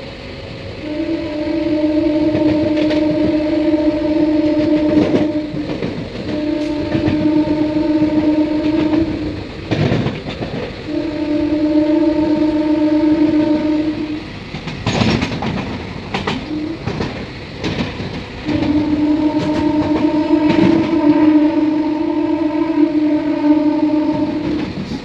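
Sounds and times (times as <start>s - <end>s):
train horn blasts: 0.7s - 25.0s
rail clatter: 0.8s - 25.0s.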